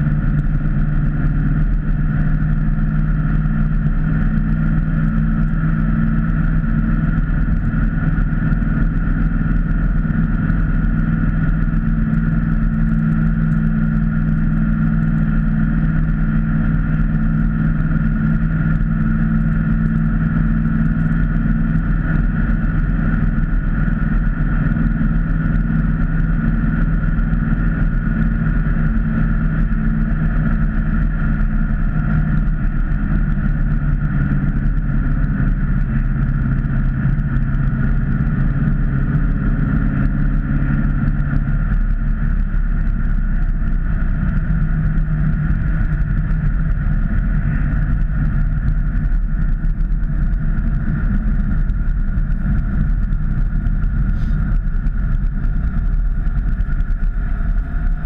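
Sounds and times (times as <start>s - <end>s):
car engine running: 0.0s - 58.0s
low road rumble: 0.0s - 58.0s.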